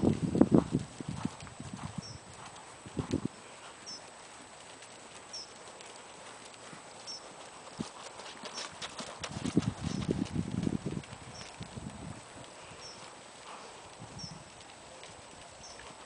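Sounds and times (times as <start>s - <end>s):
horse hooves trotting on soft ground: 0.0s - 16.0s.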